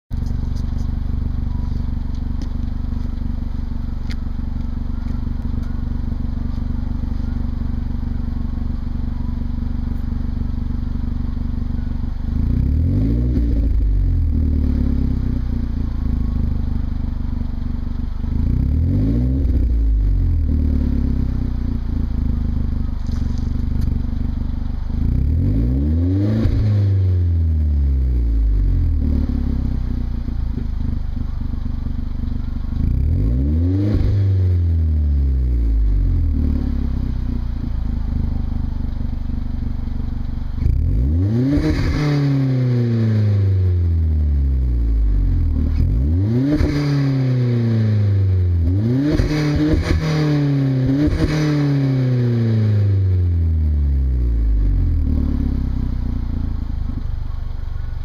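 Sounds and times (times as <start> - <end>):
car engine idling: 0.1 - 58.0
car engine revving: 0.2 - 58.0.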